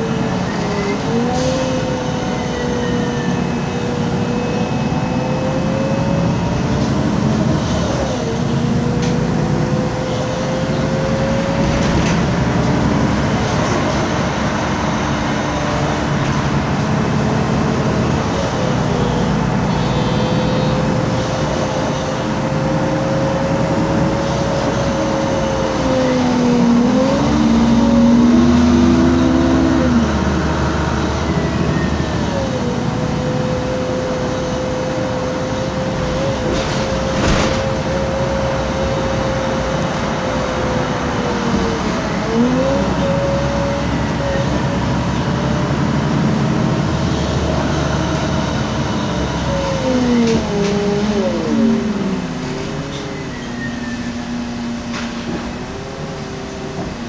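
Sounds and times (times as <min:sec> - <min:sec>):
bus engine whine: 0:00.0 - 0:57.0
road noise: 0:00.0 - 0:57.0.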